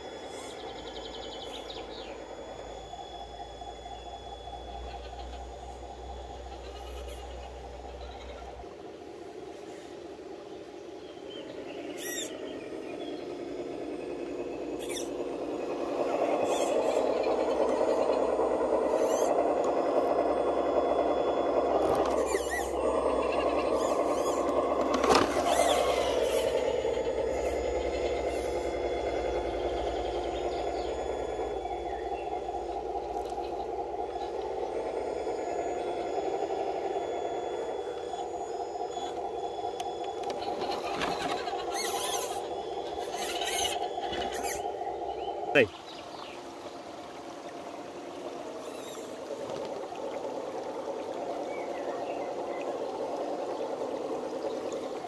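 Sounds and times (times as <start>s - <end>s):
toy truck electric motors whining: 0.0s - 45.8s, 47.0s - 55.0s.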